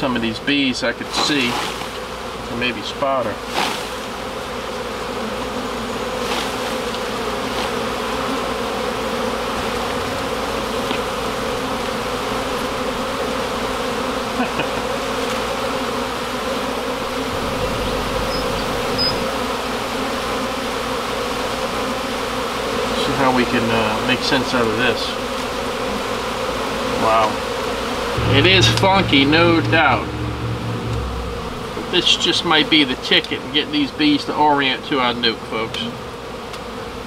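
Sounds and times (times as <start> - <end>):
honey bees buzzing: 0.0 - 32.5.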